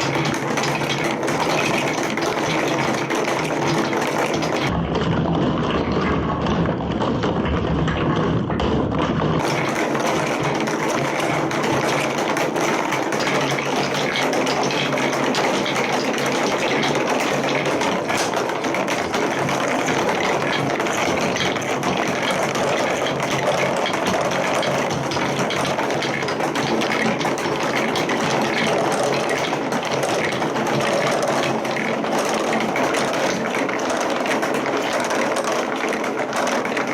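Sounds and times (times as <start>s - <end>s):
marbles rattling down plastic track: 0.0s - 5.3s, 6.6s - 36.9s.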